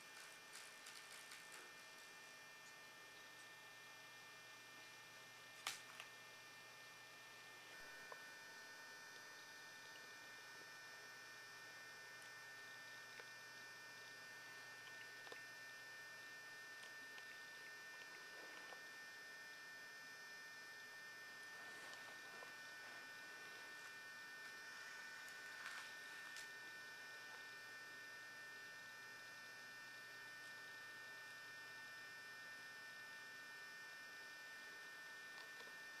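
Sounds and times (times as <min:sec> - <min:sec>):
electrical hum with high whine: 0:00.0 - 0:36.0.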